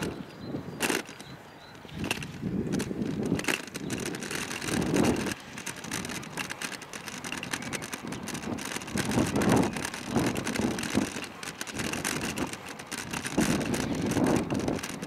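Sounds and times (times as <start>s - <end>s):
scooter wheels rumbling on asphalt: 0.0s - 15.0s
small clicks and rattles: 0.8s - 15.0s.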